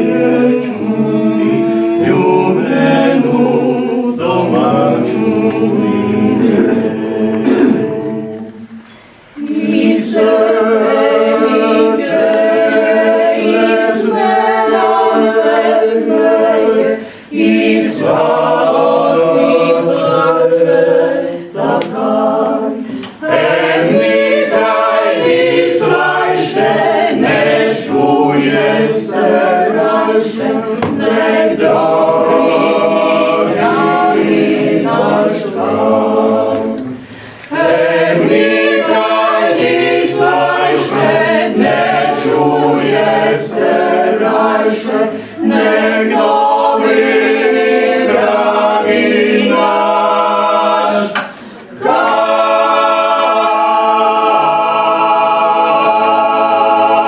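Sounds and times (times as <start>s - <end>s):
mixed choir singing folk song: 0.0s - 57.0s.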